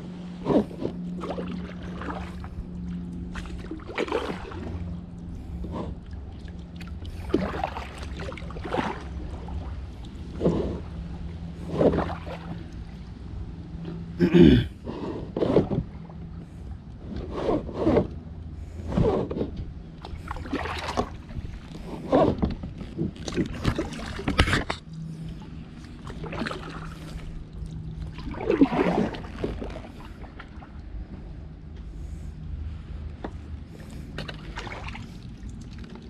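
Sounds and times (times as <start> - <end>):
paddle splashing in water: 0.2 - 13.1, 14.9 - 30.9, 33.2 - 36.0.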